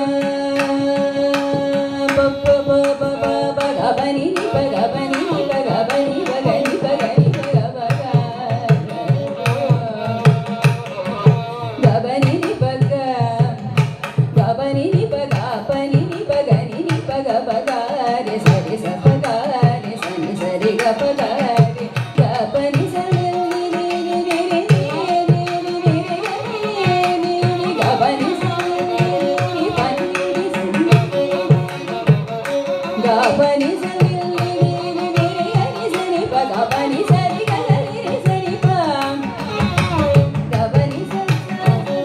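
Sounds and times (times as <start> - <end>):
woman singing: 0.0 - 10.8, 11.7 - 42.0
violin melody: 0.0 - 14.1, 14.8 - 42.0
mridangam drum strokes: 0.0 - 42.0.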